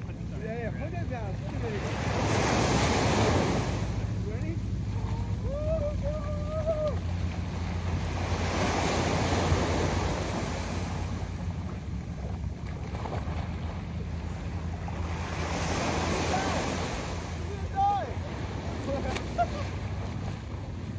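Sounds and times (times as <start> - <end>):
surf washing onto shore: 0.0 - 20.9.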